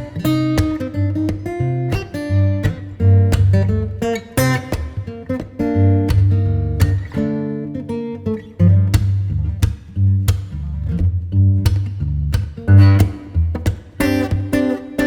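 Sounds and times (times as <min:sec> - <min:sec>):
acoustic guitar music with beat: 0:00.0 - 0:15.0.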